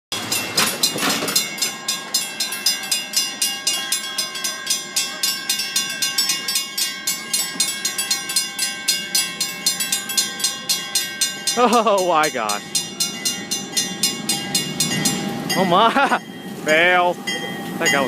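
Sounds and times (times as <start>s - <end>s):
railroad crossing bell ringing: 0.1s - 18.0s.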